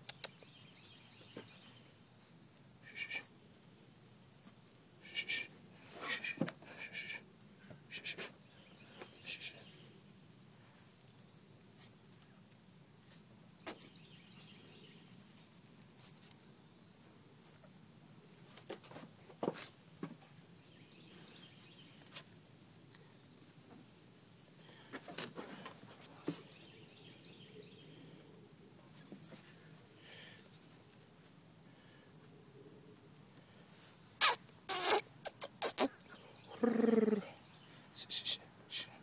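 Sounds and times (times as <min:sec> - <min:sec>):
high insect drone: 0:00.2 - 0:39.0.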